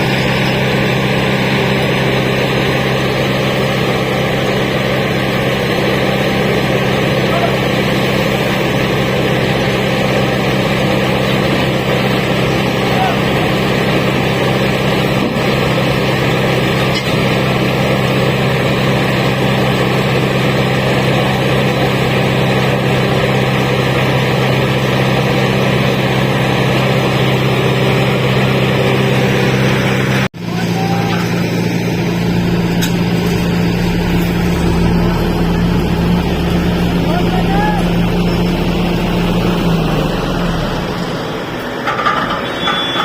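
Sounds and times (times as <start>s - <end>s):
heavy diesel engine rumbling: 0.0s - 43.0s.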